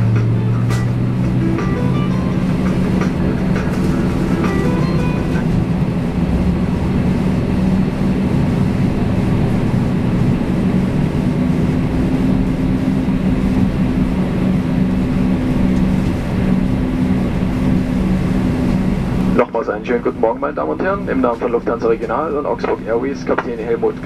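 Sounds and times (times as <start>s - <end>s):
turboprop engine drone: 0.0s - 24.0s.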